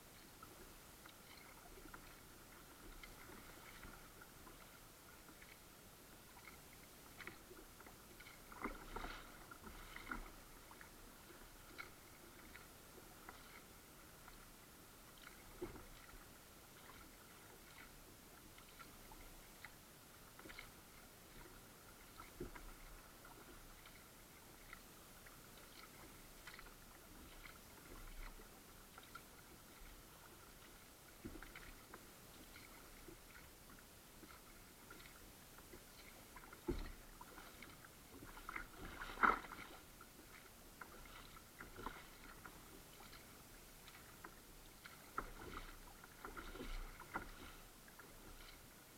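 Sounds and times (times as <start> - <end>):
kayak paddle splashing: 0.1 - 48.9.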